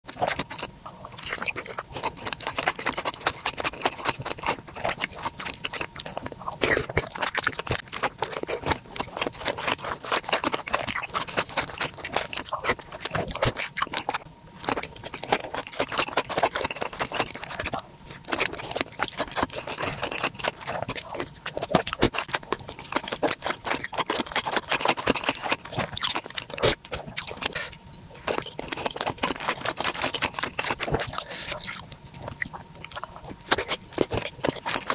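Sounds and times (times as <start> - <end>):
person chewing meatballs: 0.1 - 34.9.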